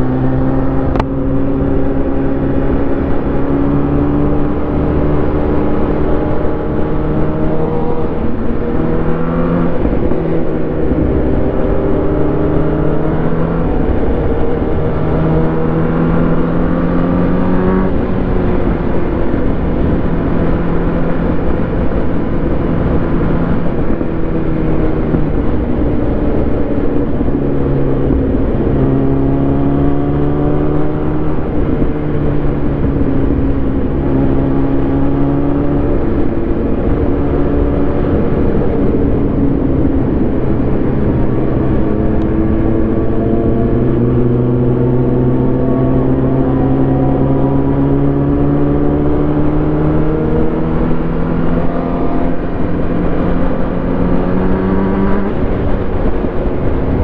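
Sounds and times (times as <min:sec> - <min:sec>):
wind noise: 0:00.0 - 0:57.0.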